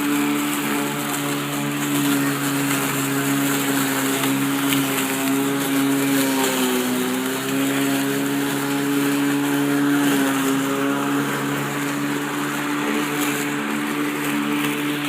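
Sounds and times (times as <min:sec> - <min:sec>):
electric lawnmower running: 0:00.0 - 0:15.0.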